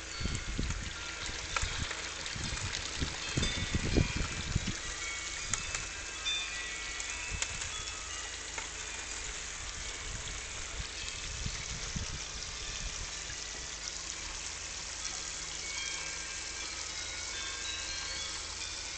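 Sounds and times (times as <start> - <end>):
water splashing and trickling: 0.0 - 18.9.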